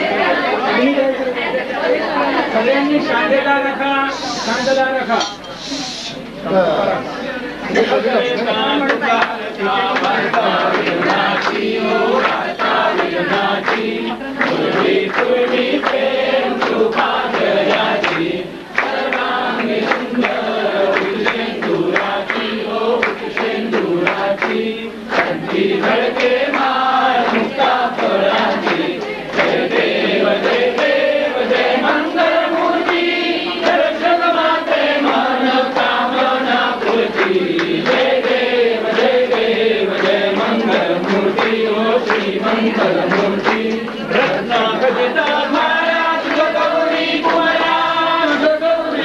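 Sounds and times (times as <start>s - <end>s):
group singing a hymn in chorus: 0.0s - 3.5s, 7.6s - 49.0s.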